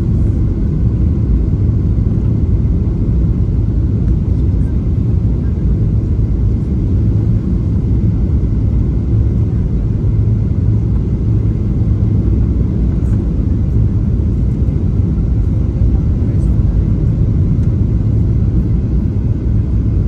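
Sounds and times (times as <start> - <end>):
jet engine cabin rumble: 0.0 - 20.0.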